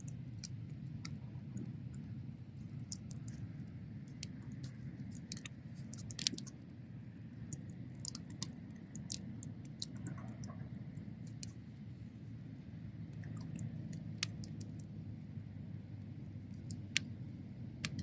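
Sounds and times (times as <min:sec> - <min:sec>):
bonfire crackling and popping: 0:00.0 - 0:11.7, 0:13.0 - 0:18.0.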